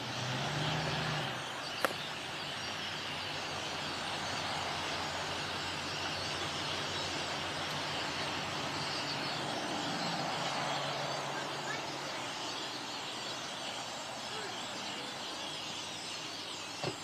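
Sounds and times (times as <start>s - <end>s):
low engine hum: 0.0s - 17.0s
many birds calling: 0.0s - 17.0s.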